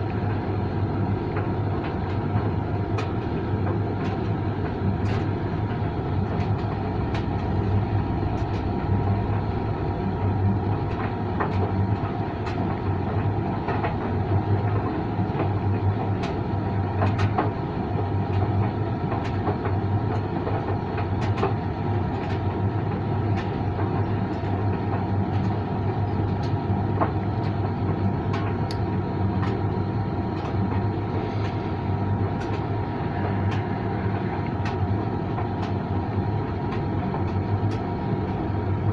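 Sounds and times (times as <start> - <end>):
tumble dryer rumbling: 0.0 - 38.9.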